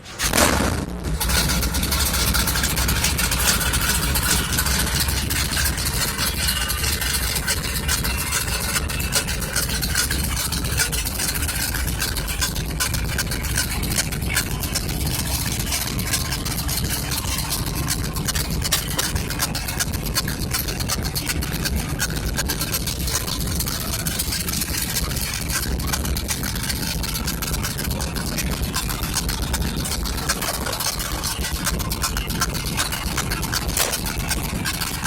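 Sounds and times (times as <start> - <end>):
engine idling: 0.0 - 35.0
rapid engine ticking: 0.0 - 35.0.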